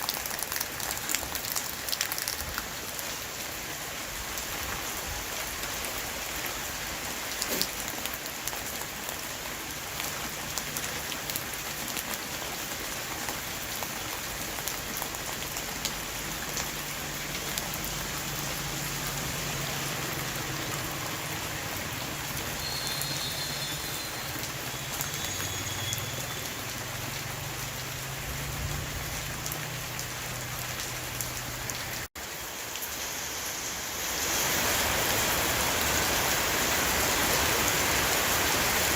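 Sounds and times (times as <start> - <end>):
rain on a roof: 0.0 - 38.9.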